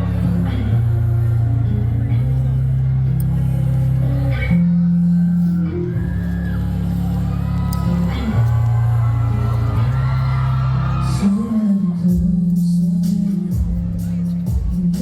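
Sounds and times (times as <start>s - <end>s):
deep bass notes: 0.0s - 15.0s
guitar lines: 0.0s - 15.0s.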